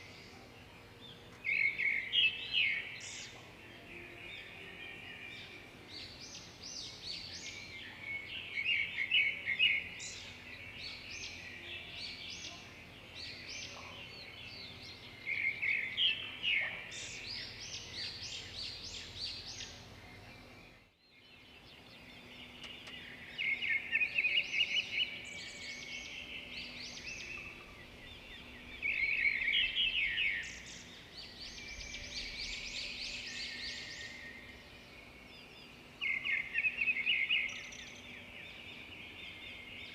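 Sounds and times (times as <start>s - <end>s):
birds singing and chirping: 0.0s - 39.9s
faint background hiss: 0.0s - 39.9s.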